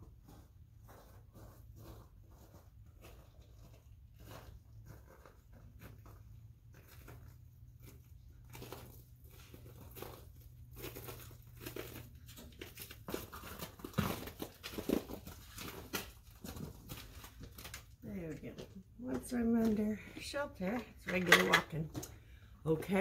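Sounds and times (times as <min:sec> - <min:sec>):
footsteps on icy rocky ground: 0:00.0 - 0:21.2.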